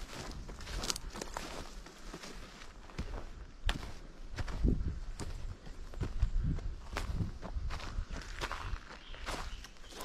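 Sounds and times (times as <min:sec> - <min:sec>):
footsteps on forest trail: 0:00.0 - 0:10.0.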